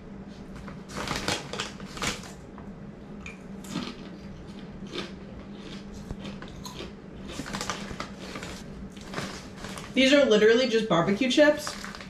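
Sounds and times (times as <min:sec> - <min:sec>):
plastic chip bag crinkling: 0:00.6 - 0:02.4, 0:03.7 - 0:12.0.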